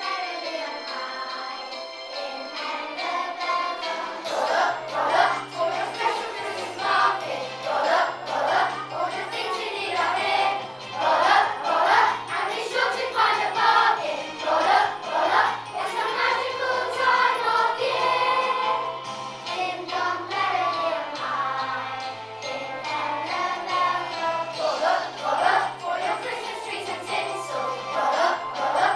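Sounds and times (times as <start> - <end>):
children's choir singing: 0.0 - 28.9.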